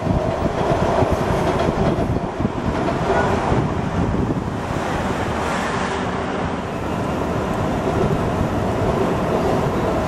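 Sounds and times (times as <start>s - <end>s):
faint steady train tone: 0.0s - 10.0s
train approaching rushing noise: 0.0s - 10.0s
wind on microphone: 0.0s - 10.0s.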